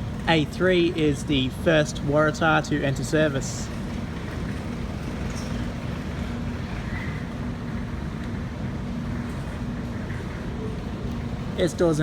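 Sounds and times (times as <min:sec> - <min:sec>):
electric train hum and rumble: 0:00.0 - 0:12.0.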